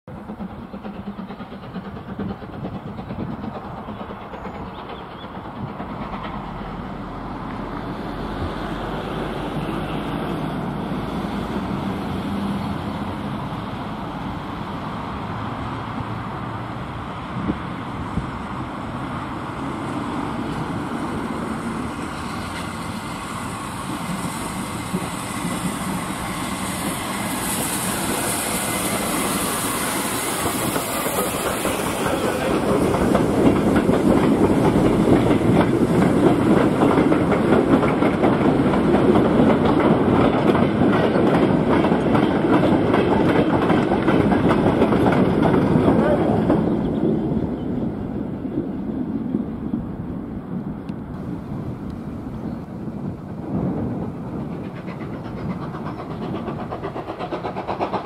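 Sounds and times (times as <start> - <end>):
steam locomotive approaching: 0.1 - 58.0.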